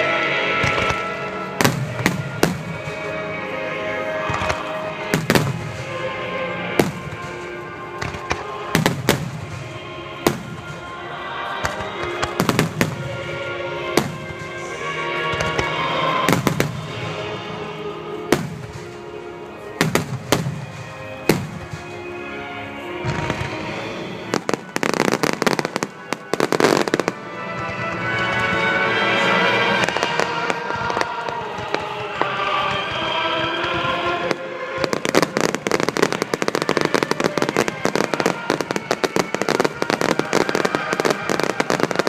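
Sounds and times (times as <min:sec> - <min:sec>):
music: 0:00.0 - 0:42.0.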